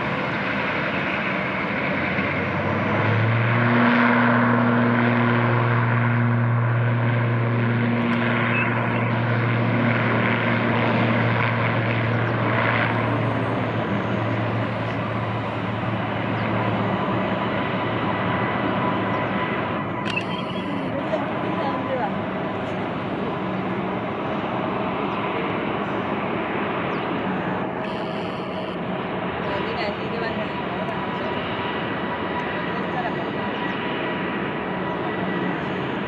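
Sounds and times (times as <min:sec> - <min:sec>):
turboprop propeller drone: 0:00.0 - 0:36.0.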